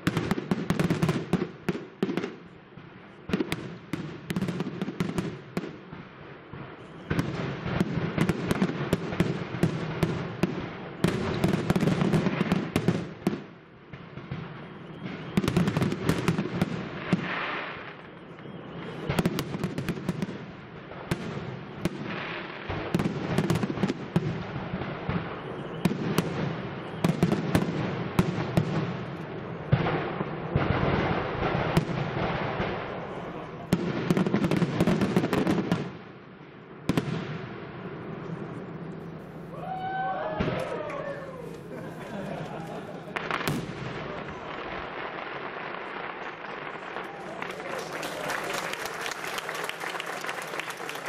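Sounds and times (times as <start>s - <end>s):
fireworks crackle: 0.0s - 51.0s.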